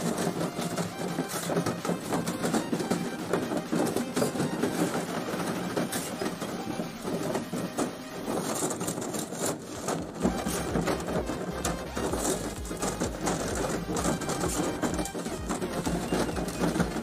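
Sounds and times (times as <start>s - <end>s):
copper tubing clinking and rattling: 0.0s - 17.0s.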